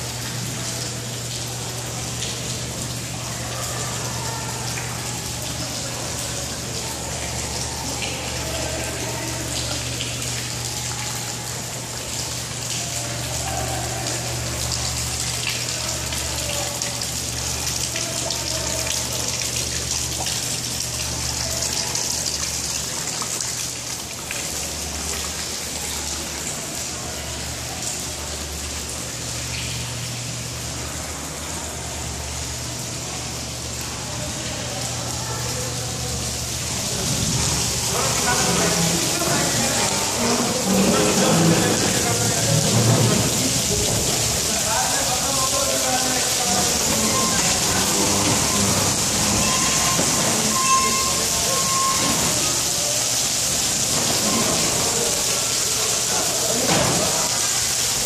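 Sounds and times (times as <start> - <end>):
rainwater splashing down: 0.0 - 58.0.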